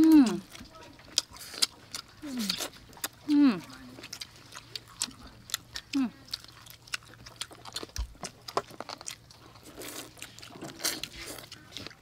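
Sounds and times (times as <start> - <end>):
people chewing fried chicken: 0.0 - 12.0.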